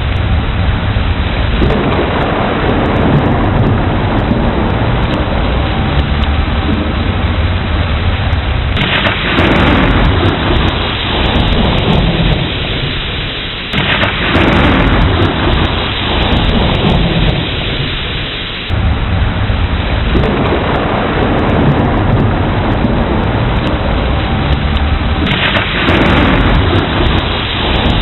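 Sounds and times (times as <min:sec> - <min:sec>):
heavy rain: 0:00.0 - 0:28.0
rolling thunder: 0:00.0 - 0:28.0.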